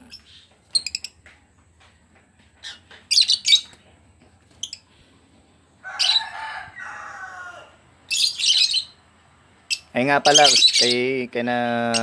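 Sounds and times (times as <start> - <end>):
lovebirds chirping: 0.0 - 7.3, 8.0 - 12.0.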